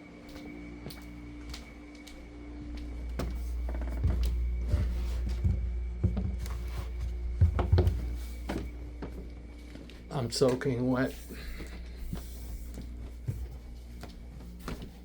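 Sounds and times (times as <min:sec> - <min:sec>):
steady hum: 0:00.0 - 0:15.0
footsteps on stairs: 0:00.3 - 0:15.0.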